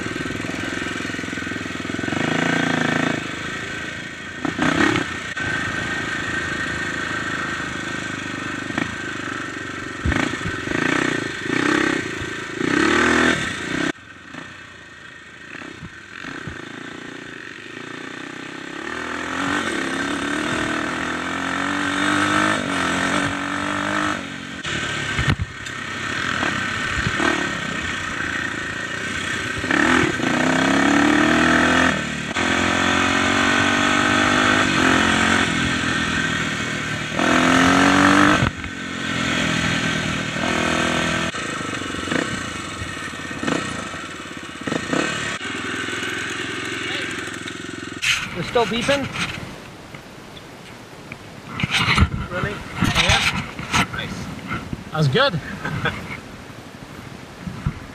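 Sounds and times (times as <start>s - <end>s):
dirt bike engine revving: 0.0s - 49.5s.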